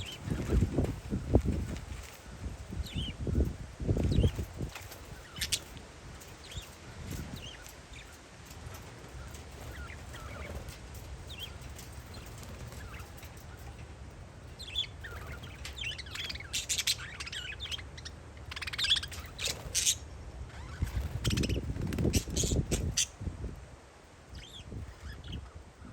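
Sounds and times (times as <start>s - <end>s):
parakeets chirping: 0.0s - 23.2s, 24.3s - 25.5s
wind rumble on microphone: 0.0s - 25.9s.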